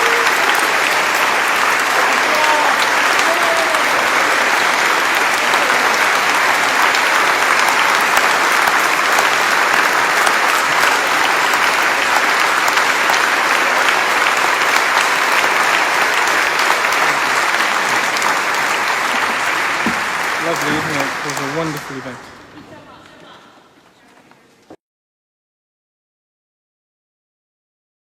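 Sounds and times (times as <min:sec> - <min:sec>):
audience applauding: 0:00.0 - 0:23.8.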